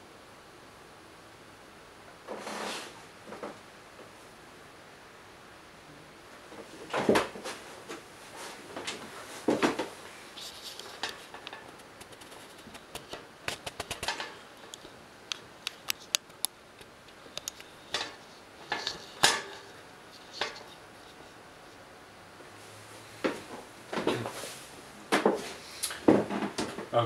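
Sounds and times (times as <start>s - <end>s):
rustles: 2.2s - 4.4s, 6.3s - 27.0s.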